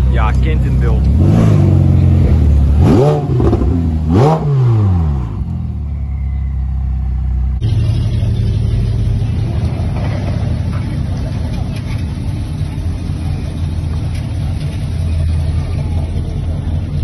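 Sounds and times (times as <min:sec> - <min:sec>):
car engine running at low revs: 0:00.0 - 0:17.0
sports car engine revving: 0:00.0 - 0:17.0.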